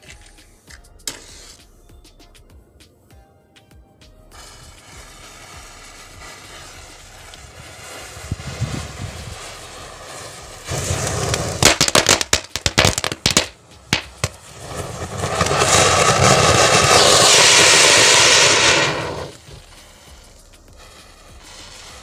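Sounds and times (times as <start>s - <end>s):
firecrackers cracking and popping: 4.3s - 22.0s
fountain firework hissing: 4.3s - 22.0s.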